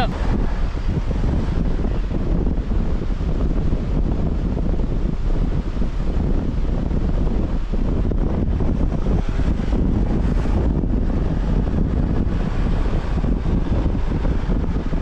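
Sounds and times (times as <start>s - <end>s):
car engine running: 0.0s - 15.0s
wind buffeting microphone: 0.0s - 15.0s.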